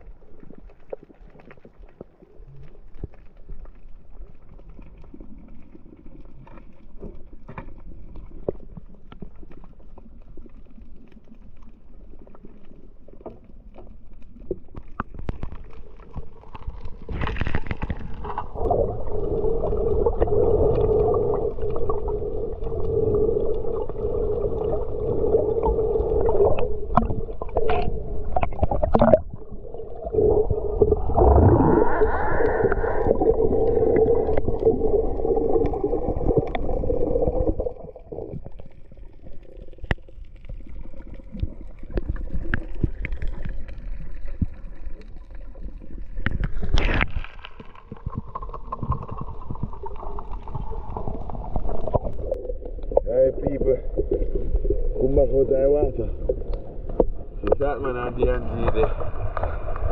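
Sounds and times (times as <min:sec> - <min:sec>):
boat engine underwater: 0:00.0 - 0:59.9
gurgling water: 0:00.0 - 0:59.9
underwater clicks and crackles: 0:00.0 - 0:59.9.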